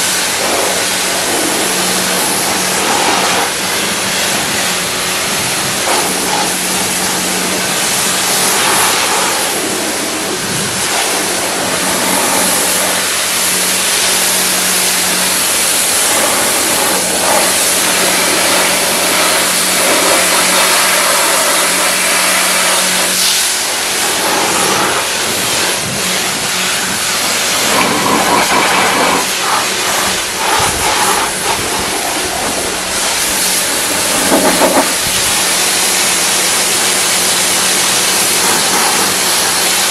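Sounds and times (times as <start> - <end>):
pressure washer water jet hissing: 0.0 - 39.9
pump motor humming: 0.0 - 39.9.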